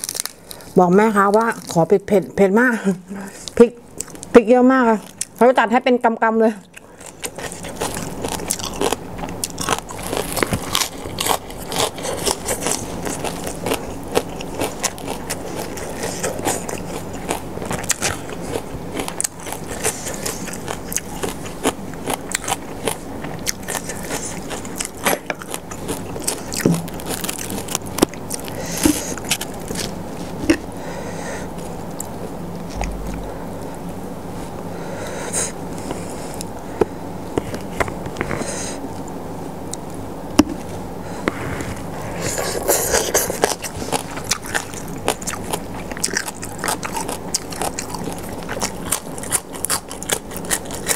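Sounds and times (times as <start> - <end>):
crunching and chewing lettuce: 0.0 - 5.8, 6.5 - 50.9.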